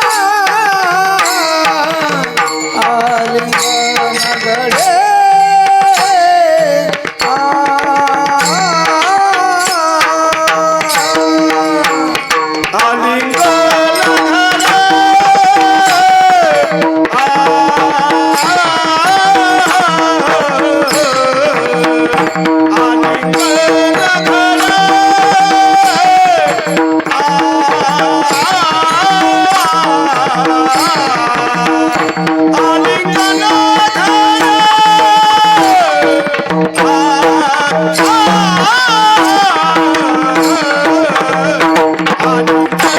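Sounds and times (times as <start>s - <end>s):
hand drum: 0.0s - 42.9s
man singing: 0.0s - 42.9s
steady accompanying notes: 0.0s - 42.9s.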